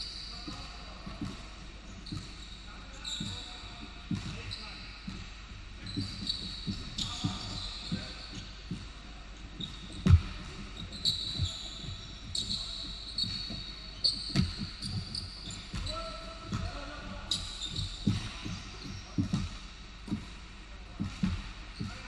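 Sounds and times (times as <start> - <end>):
sneakers squeaking on court: 0.0 - 22.0
basketball bouncing on wooden floor: 0.3 - 2.5, 4.1 - 5.2, 5.9 - 8.9, 9.6 - 20.4, 21.0 - 22.0.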